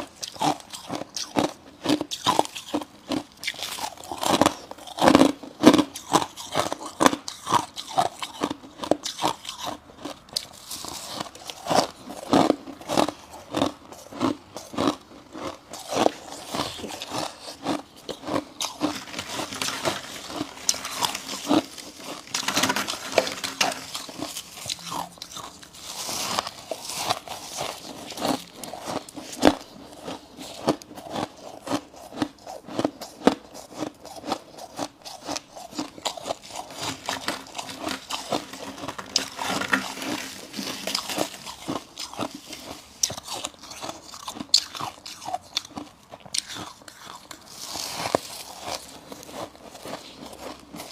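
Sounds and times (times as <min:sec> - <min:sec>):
person crunching ice: 0:00.0 - 0:50.9.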